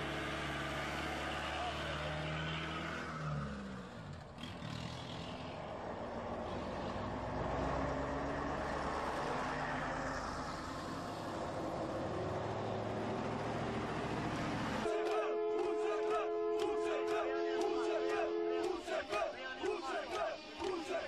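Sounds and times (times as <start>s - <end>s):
buses driving past: 0.0s - 21.0s.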